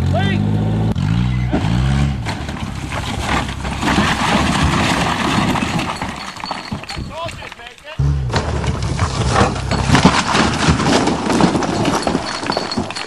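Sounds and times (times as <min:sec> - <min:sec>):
car tumbling down rocky embankment: 0:01.4 - 0:13.0.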